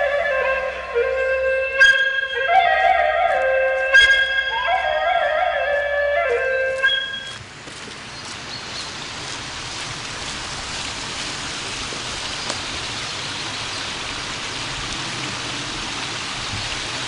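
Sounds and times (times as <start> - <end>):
stream rushing over cascades: 0.0 - 17.0.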